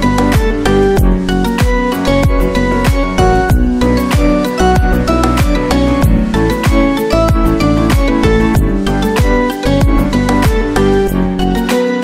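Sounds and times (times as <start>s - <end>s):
melodic background music with beat: 0.0s - 12.0s.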